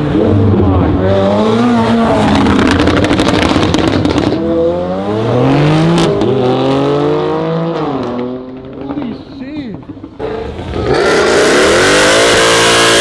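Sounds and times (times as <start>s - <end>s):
car engine revving hard: 0.0s - 8.6s, 10.2s - 13.0s
exhaust crackling: 0.0s - 13.0s.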